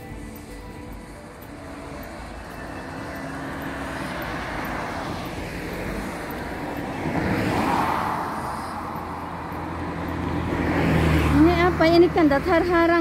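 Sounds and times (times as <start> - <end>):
road traffic noise: 0.0 - 13.0
vehicle passing: 0.0 - 13.0.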